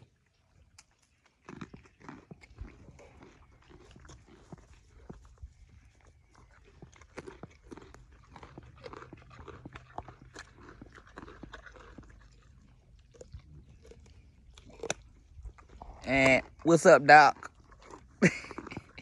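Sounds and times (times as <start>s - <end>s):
horse chewing carrots: 0.0s - 19.0s.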